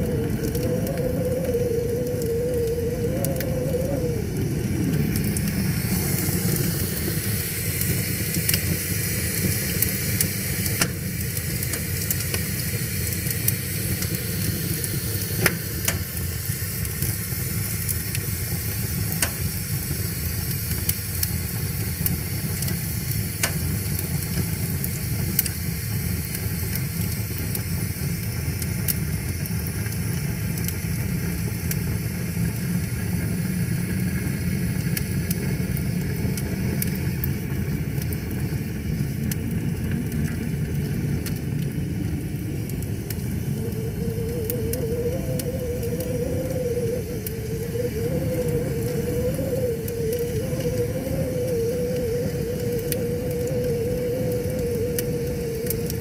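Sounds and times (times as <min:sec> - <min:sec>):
fire crackles and pops: 0:00.0 - 0:56.0
fire rushing and hissing: 0:00.0 - 0:56.0.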